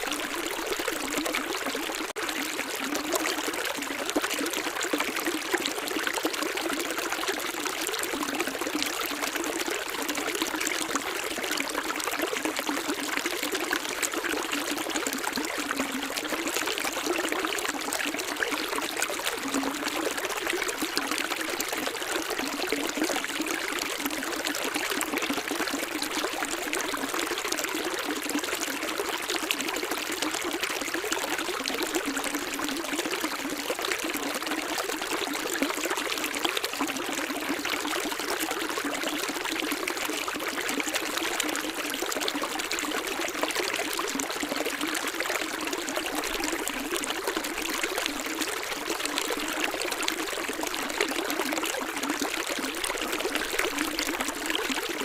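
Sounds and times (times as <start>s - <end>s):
stream splashing and trickling: 0.0s - 55.0s.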